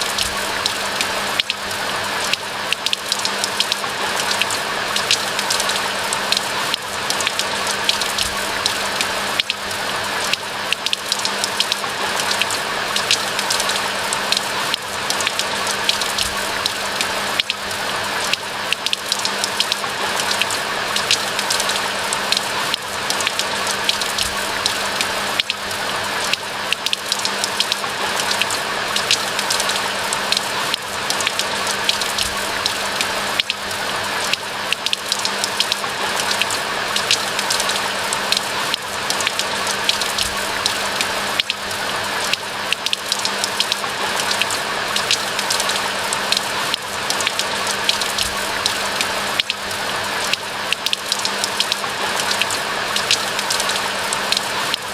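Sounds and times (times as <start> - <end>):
pattering raindrops: 0.0 - 54.9
steady rain falling: 0.0 - 54.9.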